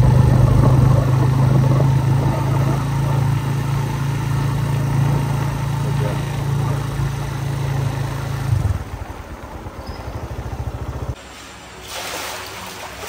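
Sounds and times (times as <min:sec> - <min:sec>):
engine idling: 0:00.0 - 0:11.2.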